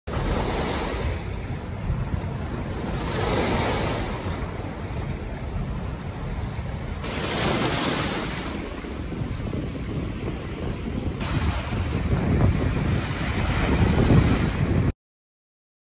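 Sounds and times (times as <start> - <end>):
waves splashing against rocks: 0.1 - 14.9
wind buffeting microphone: 0.1 - 14.9.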